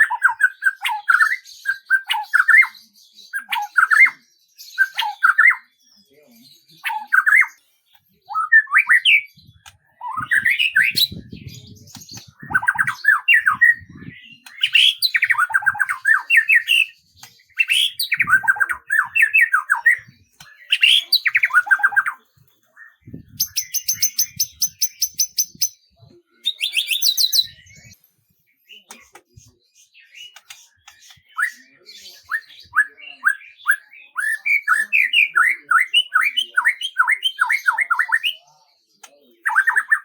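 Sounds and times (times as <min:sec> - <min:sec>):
songbird singing: 0:00.0 - 0:40.0.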